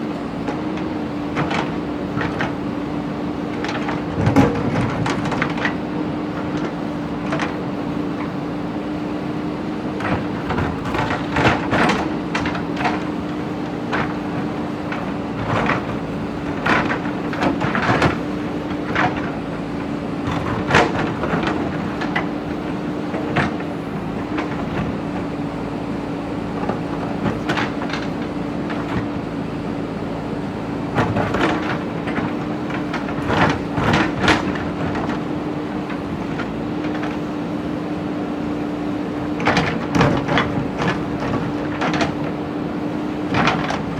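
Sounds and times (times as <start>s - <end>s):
diesel engine running under load: 0.0s - 43.9s.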